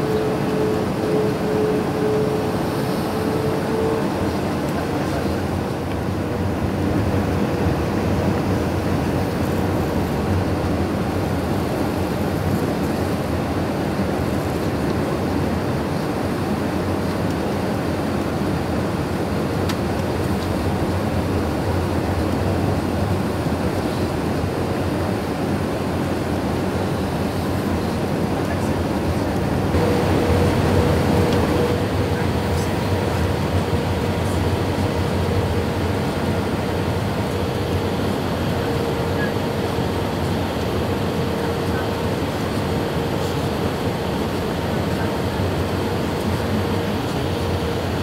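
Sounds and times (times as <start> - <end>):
aircraft engines and airflow rush: 0.0 - 48.0.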